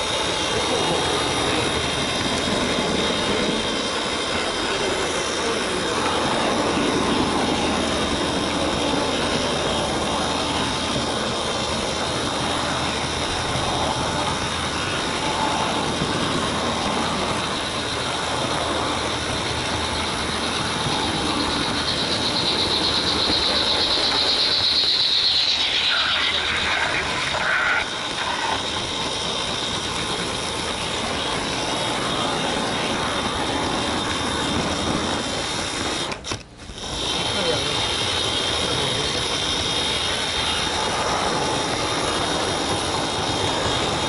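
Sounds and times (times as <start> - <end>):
high motor whine: 0.0 - 44.0
model train wheels rattling: 0.0 - 44.0.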